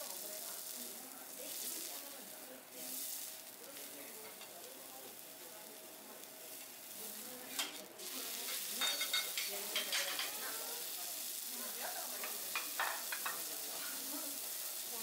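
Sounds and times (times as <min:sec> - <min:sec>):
food sizzling on griddle: 0:00.0 - 0:15.0.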